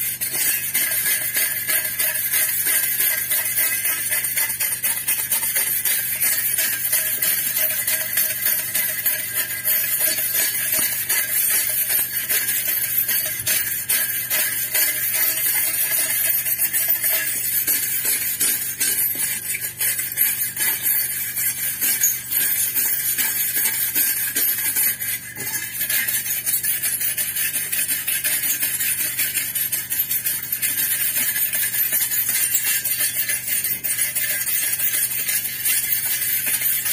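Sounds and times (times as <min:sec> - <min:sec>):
wire brush scratching metal: 0:00.0 - 0:36.9.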